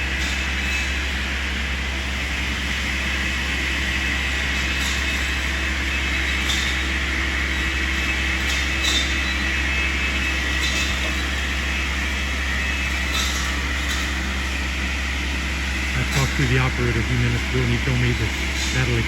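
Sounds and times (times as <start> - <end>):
distant machine drone with whine: 0.0 - 19.0.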